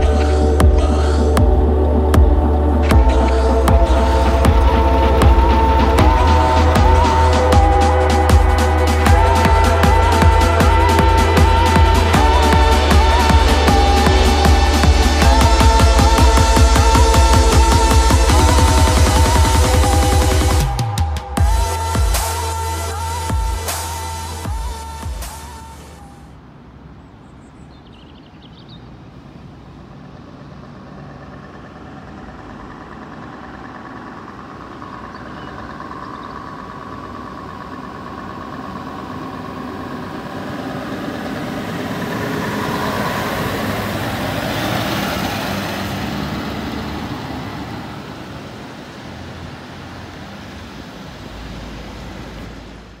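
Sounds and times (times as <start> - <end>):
truck engine driving past: 0.0 - 27.1, 28.2 - 53.0.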